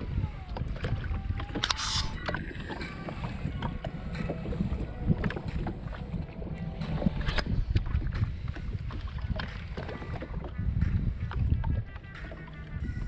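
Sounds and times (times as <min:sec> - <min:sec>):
waves lapping against hull: 0:00.0 - 0:13.0
wind buffeting microphone: 0:00.0 - 0:13.0.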